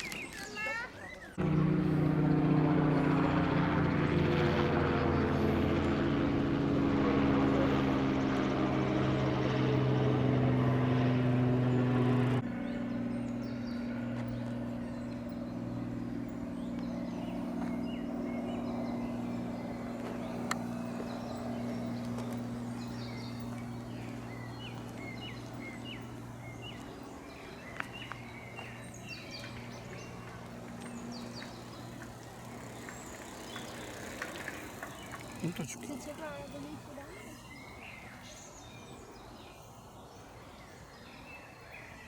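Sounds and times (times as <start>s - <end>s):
small birds chirping: 0.0s - 3.6s, 7.6s - 42.0s
distant engine drone: 1.1s - 40.9s.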